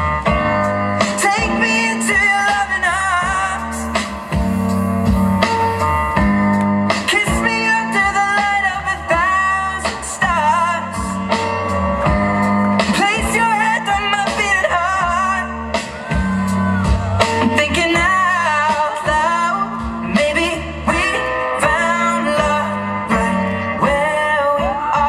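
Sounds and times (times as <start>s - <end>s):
song with singing voice: 0.0s - 25.0s.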